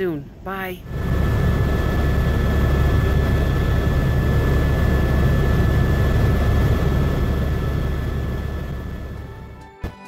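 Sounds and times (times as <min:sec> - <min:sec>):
helicopter rotor and engine drone: 0:00.0 - 0:09.6
thin steady whine: 0:00.0 - 0:09.6.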